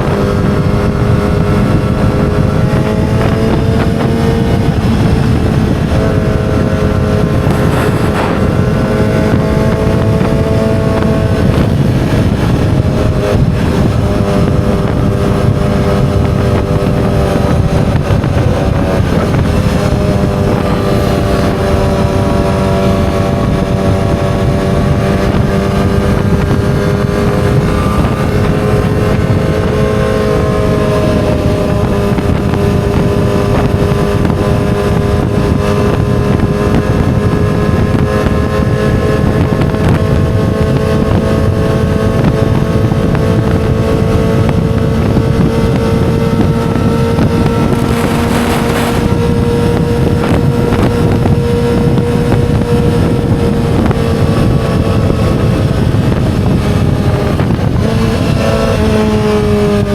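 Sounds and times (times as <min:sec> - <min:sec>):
motorcycle engine running at high speed: 0:00.0 - 0:59.9.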